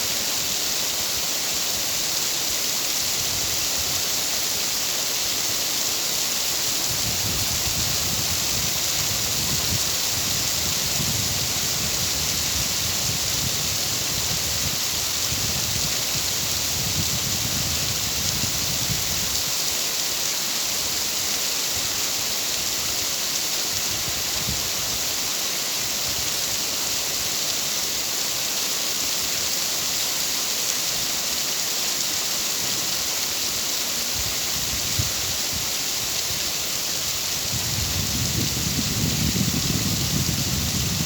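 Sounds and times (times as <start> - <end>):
steady rainfall: 0.0 - 41.0.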